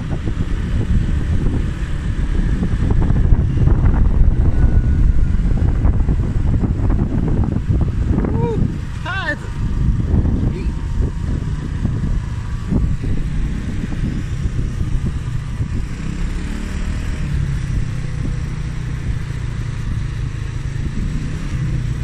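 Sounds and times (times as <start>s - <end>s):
motor scooter engine running: 0.0s - 22.0s.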